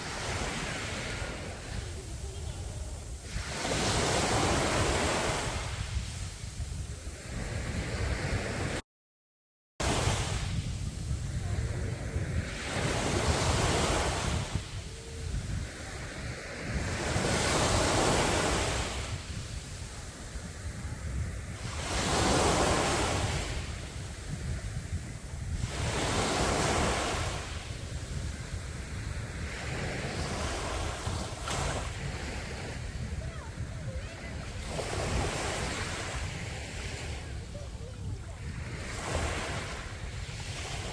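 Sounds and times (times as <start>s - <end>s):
waves breaking on a beach: 0.0s - 8.8s, 9.8s - 40.9s
wind rumbling on microphone: 0.0s - 8.8s, 9.8s - 40.9s.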